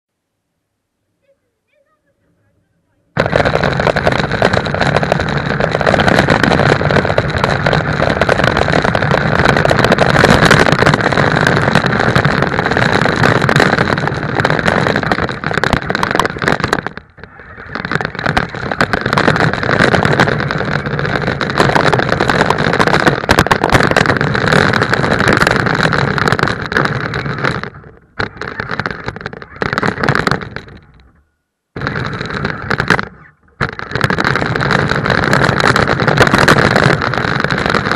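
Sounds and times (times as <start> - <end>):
wheels rumbling on tarmac: 2.5 - 37.9
toy car motor whining: 3.2 - 31.0, 31.8 - 37.9.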